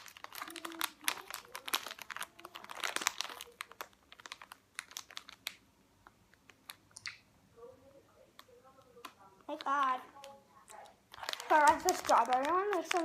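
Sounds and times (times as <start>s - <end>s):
plastic packaging crinkling: 0.0s - 7.0s, 8.4s - 13.0s.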